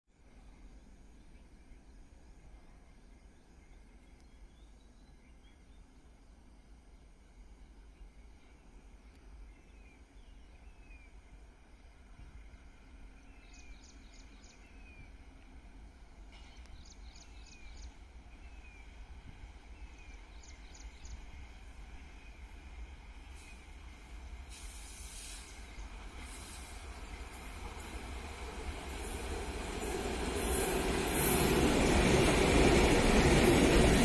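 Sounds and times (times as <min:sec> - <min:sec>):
distant train rumble: 0:00.2 - 0:34.0.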